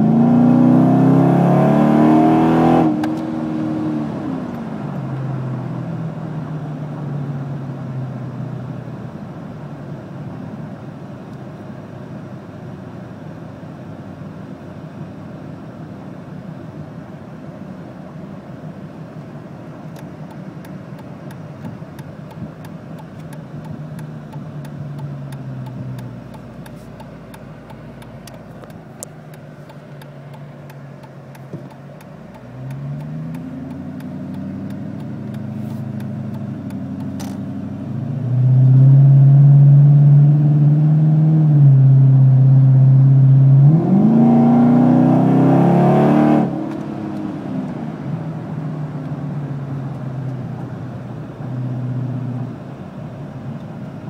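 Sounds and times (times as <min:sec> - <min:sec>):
car engine accelerating: 0:00.0 - 0:09.6, 0:19.1 - 0:54.0.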